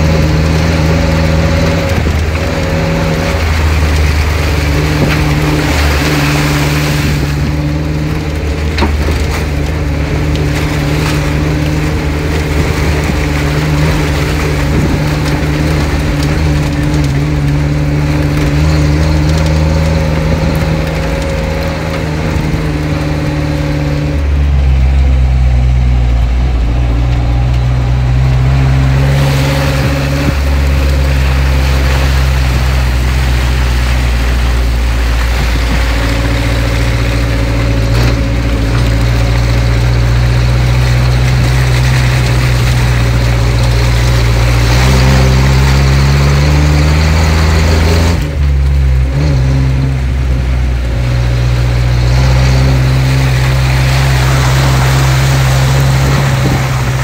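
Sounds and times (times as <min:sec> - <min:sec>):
tyres churning through mud: 0:00.0 - 0:57.0
vehicle engine under load: 0:00.0 - 0:57.0.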